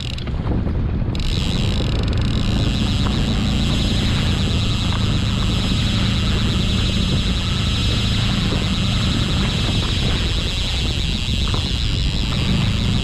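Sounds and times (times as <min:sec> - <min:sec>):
fishing reel clicker buzzing: 0:00.0 - 0:00.4, 0:01.1 - 0:13.0
outboard motor hum: 0:00.0 - 0:13.0.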